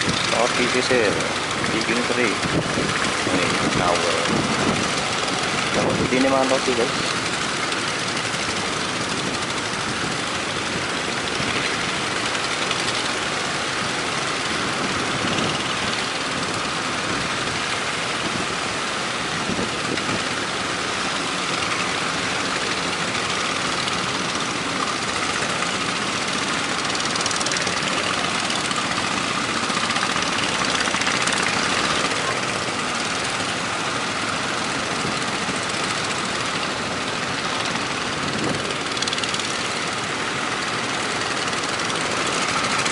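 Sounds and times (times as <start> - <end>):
rough surf: 0.0 - 42.9
strong wind: 0.0 - 42.9.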